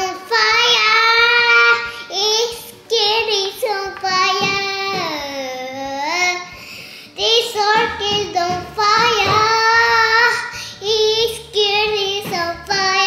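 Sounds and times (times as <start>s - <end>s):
young girl singing: 0.0s - 13.0s.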